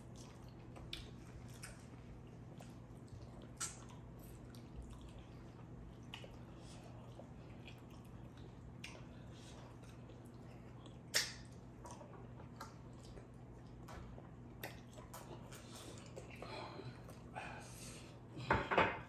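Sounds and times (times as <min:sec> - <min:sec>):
wet eating sounds: 0:00.0 - 0:18.5.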